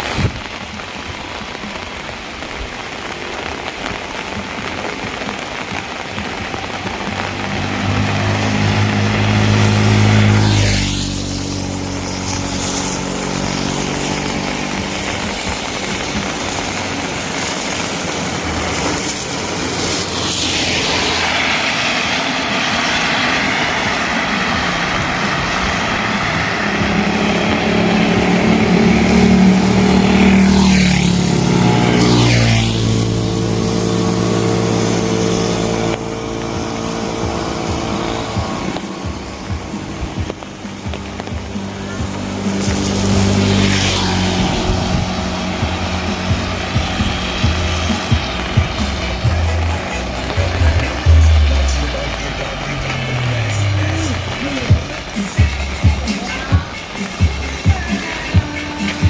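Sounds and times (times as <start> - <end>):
rain hissing: 0.0 - 59.0
vehicles passing on wet street: 0.0 - 59.0.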